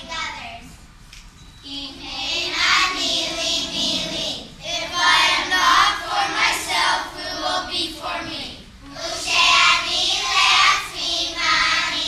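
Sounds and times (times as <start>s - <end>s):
children's choir singing: 1.7s - 12.0s.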